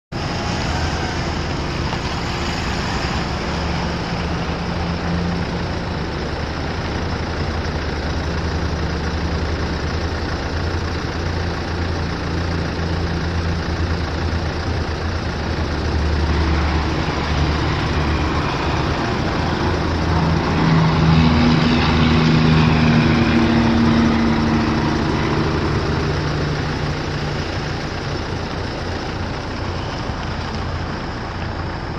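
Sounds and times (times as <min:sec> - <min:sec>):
truck engine running and revving: 0:00.1 - 0:31.9.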